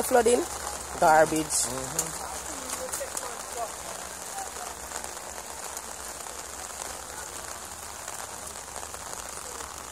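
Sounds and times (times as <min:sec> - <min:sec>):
rain falling on wet ground: 0:00.0 - 0:09.9.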